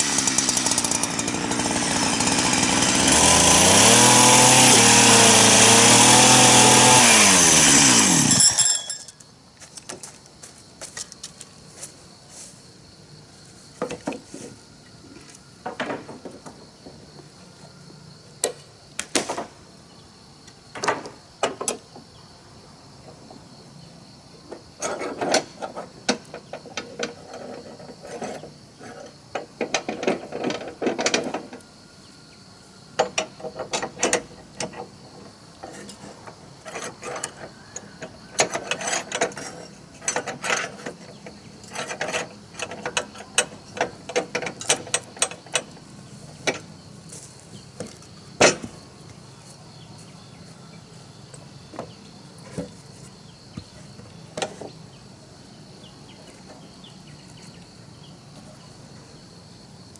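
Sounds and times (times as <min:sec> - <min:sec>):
insects buzzing faintly: 0:09.1 - 0:59.9.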